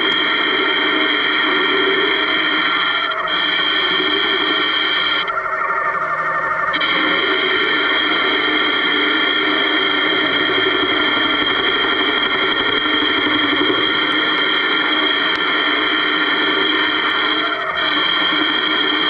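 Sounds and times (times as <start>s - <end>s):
metal lathe whining: 0.0s - 5.3s, 6.2s - 19.0s.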